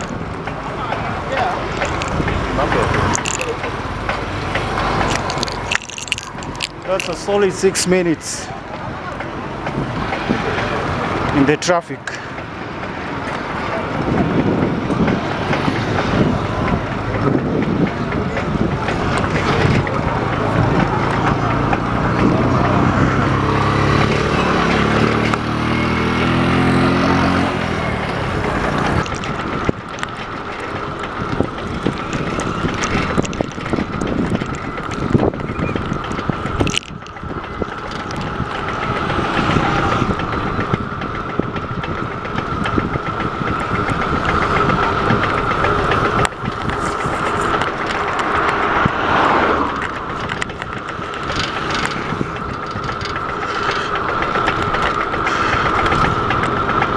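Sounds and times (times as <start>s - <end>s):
wind noise: 0.0s - 11.6s, 12.6s - 56.9s
bicycle tyres rolling on tarmac: 0.0s - 56.9s
vehicle engine running: 0.0s - 56.9s.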